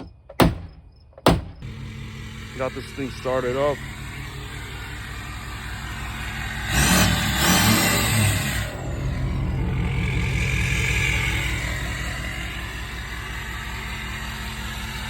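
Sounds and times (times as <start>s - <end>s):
pickup engine running: 0.0s - 15.0s
engine revving: 1.6s - 15.0s.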